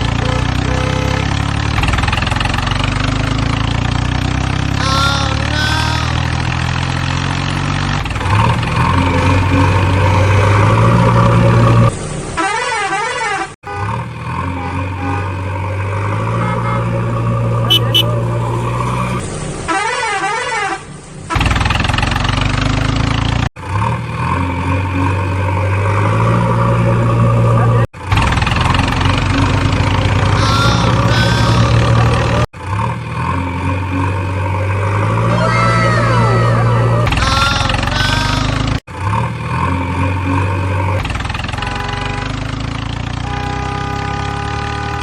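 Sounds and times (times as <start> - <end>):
vehicle engine hum: 0.0 - 45.0.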